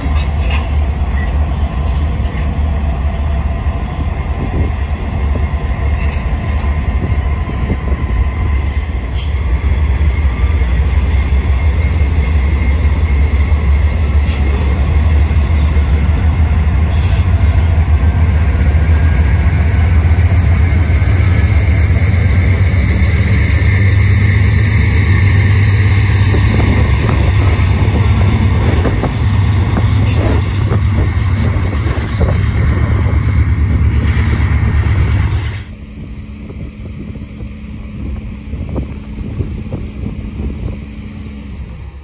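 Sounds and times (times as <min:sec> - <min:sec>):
locomotive engine drone: 0:00.0 - 0:42.0.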